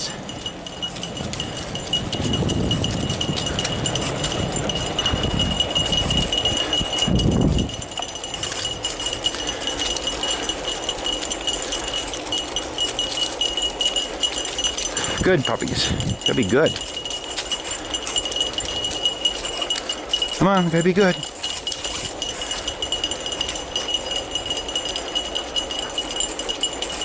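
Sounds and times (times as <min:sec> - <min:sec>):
collar tags jingling: 0:00.0 - 0:27.0
high-pitched ring: 0:00.0 - 0:27.0.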